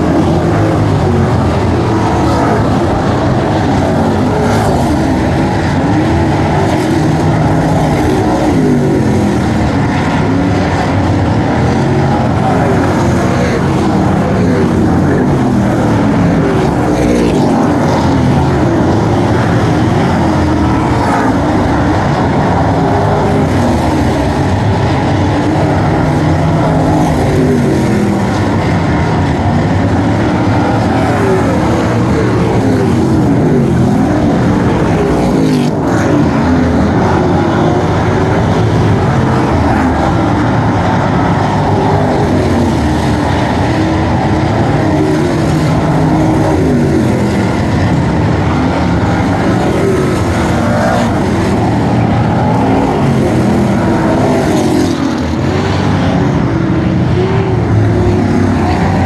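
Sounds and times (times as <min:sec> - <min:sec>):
race car engines: 0:00.0 - 0:59.0.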